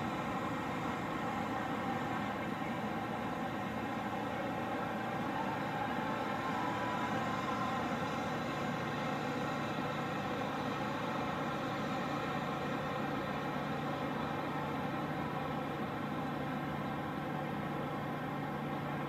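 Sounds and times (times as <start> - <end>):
large engine idling: 0.0 - 19.0.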